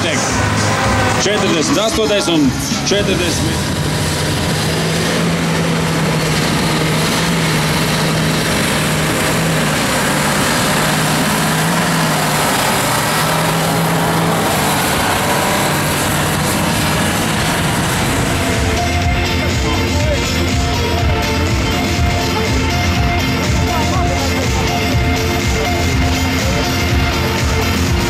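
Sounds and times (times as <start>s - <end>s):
tractor diesel engines under load: 0.0s - 28.0s.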